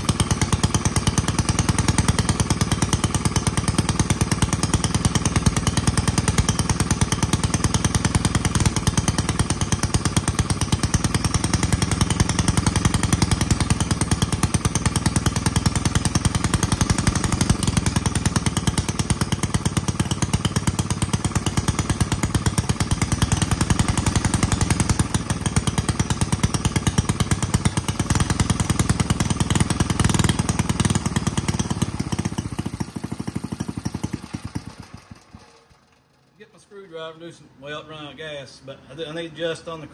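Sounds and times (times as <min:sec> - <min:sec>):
small engine running: 0:00.0 - 0:36.4.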